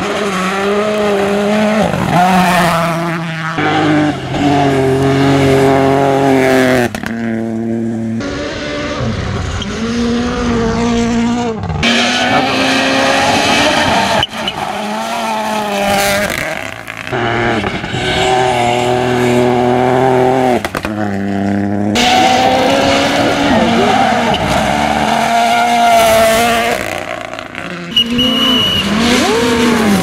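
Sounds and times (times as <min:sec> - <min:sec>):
rally car engines accelerating: 0:00.0 - 0:30.0.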